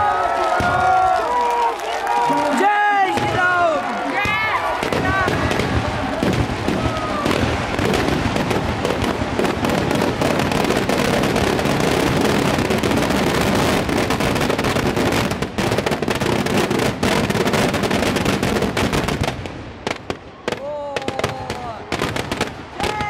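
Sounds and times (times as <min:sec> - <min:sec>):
firecrackers cracking and banging: 0:00.0 - 0:23.0.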